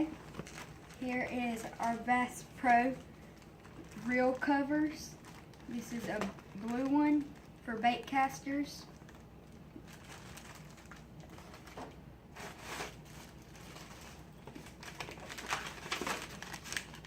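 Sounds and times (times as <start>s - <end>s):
packaging rustling: 0.0s - 2.1s, 2.7s - 7.6s, 8.9s - 17.0s.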